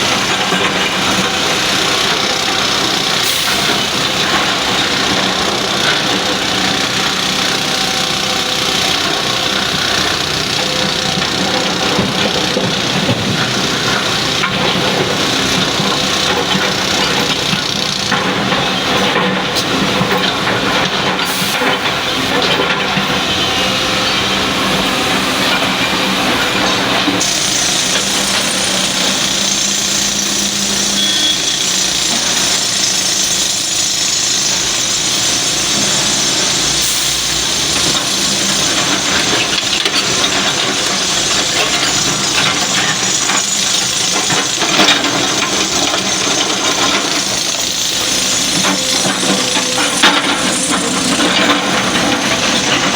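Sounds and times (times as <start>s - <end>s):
excavator engine and hydraulics: 0.0s - 52.9s.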